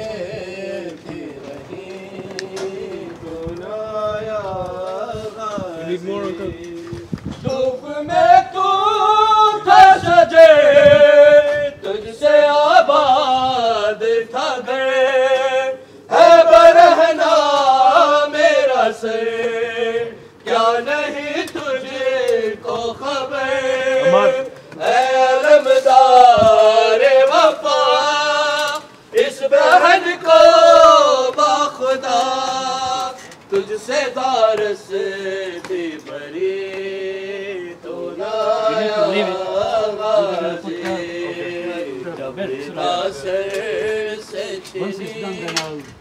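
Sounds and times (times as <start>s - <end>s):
man singing unaccompanied lament: 0.0s - 45.9s.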